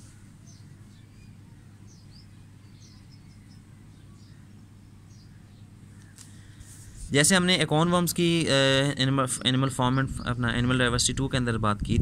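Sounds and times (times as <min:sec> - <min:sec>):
small birds chirping: 0:00.0 - 0:11.8
steady low hum: 0:00.0 - 0:12.0.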